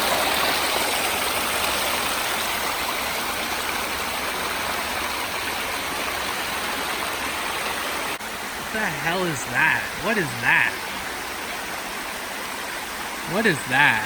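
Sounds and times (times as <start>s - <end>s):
water rushing over waterfall: 0.0s - 14.0s.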